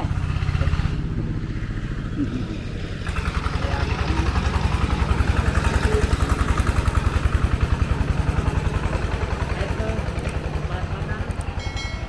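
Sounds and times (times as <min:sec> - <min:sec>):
motorbike engine chugging: 0:00.0 - 0:12.0.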